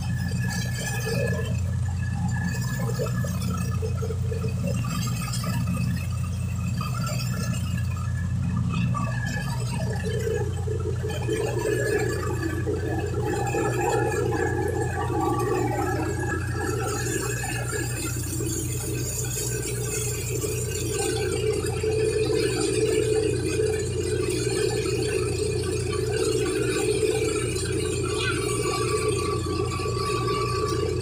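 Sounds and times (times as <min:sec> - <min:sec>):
thresher drum spinning: 0:00.0 - 0:31.0
tractor engine drone: 0:00.0 - 0:31.0.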